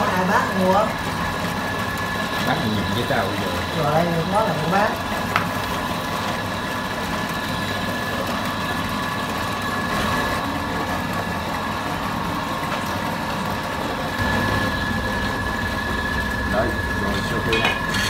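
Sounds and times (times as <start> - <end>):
electric motor humming and whining: 0.0 - 18.0.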